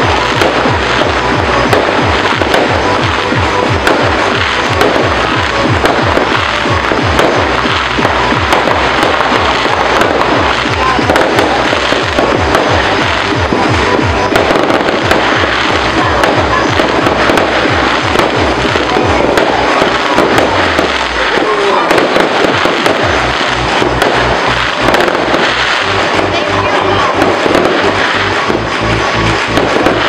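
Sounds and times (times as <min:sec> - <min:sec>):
fireworks crackling and popping: 0:00.0 - 0:30.0
music with steady bass beat: 0:00.0 - 0:30.0.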